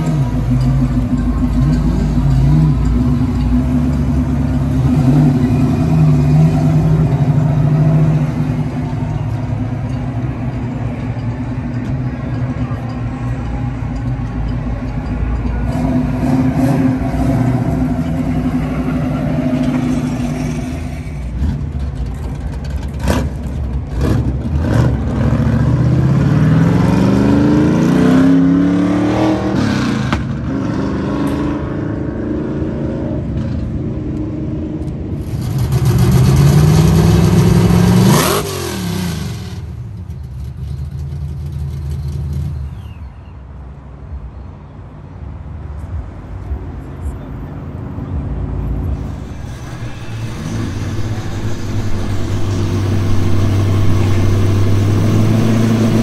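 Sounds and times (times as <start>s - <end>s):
car engines revving: 0.0s - 42.7s, 47.6s - 56.0s.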